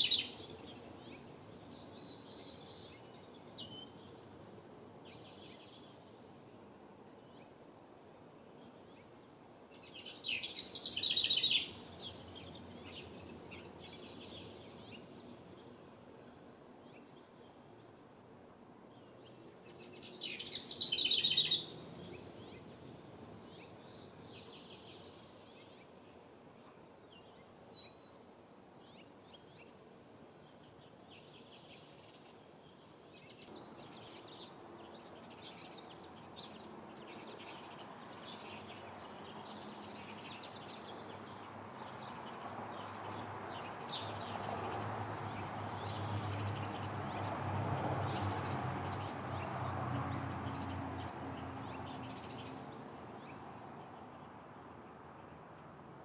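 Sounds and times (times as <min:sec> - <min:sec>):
songbirds chirping and singing: 0:00.0 - 0:04.5, 0:08.6 - 0:18.0, 0:18.9 - 0:28.2, 0:28.8 - 0:54.2.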